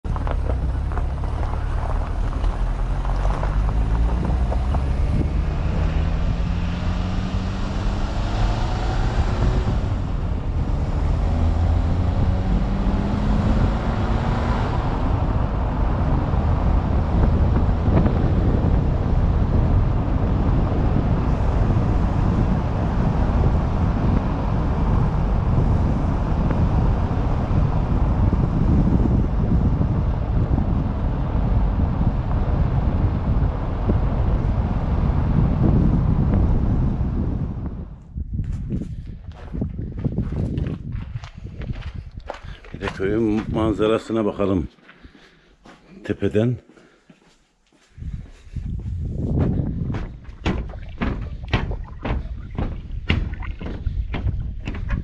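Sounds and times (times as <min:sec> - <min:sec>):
vehicle engine accelerating: 0:00.0 - 0:38.0, 0:48.8 - 0:55.0
wind buffeting microphone: 0:00.0 - 0:44.3, 0:47.8 - 0:55.0.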